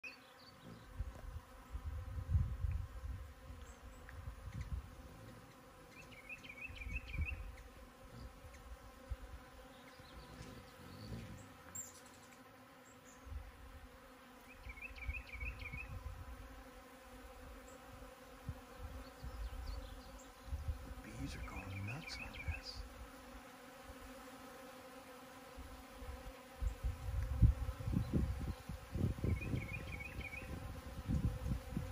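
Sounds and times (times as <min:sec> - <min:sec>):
bees buzzing: 0:00.0 - 0:31.9.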